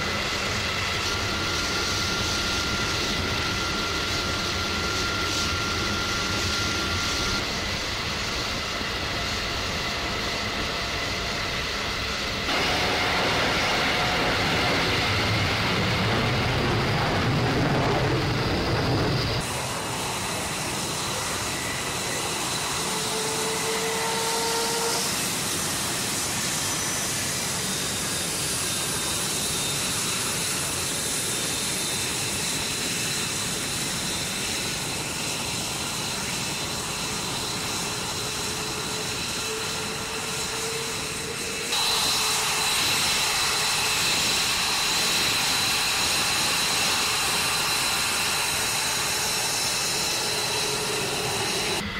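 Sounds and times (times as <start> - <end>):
jet engines idling: 0.0 - 51.9.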